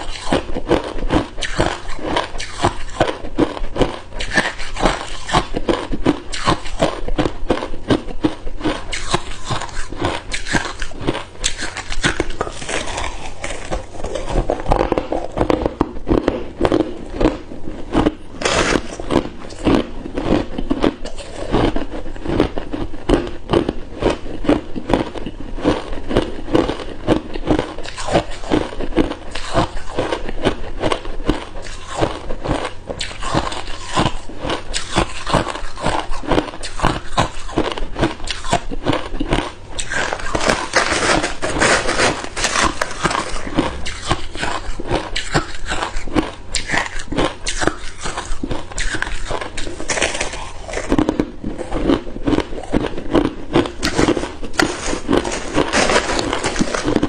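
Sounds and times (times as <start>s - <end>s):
ice cubes being chewed: 0.0s - 57.0s.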